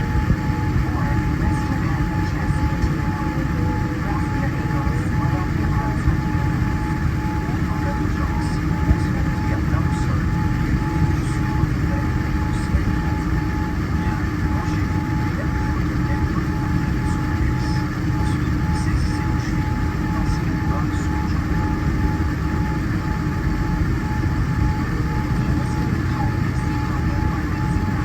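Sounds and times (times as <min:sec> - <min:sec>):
airliner cabin roar: 0:00.0 - 0:28.0.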